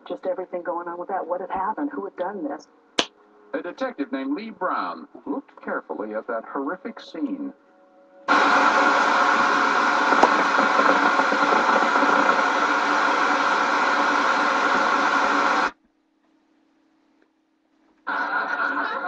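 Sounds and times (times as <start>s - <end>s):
television static hiss: 0.0s - 19.0s.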